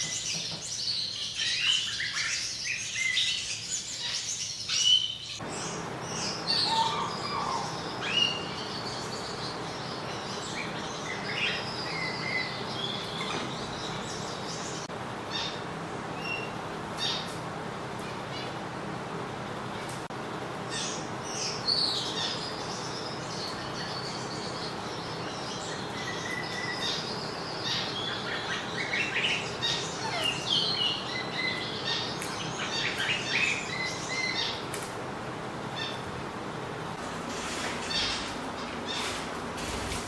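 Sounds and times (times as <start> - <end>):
small birds chirping: 0.0 - 18.8, 19.6 - 35.0
steady background hiss: 0.0 - 40.0.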